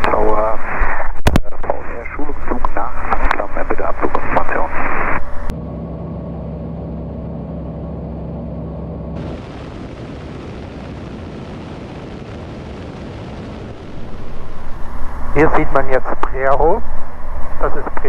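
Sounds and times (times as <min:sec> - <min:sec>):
light aircraft engine droning: 0:01.6 - 0:18.0.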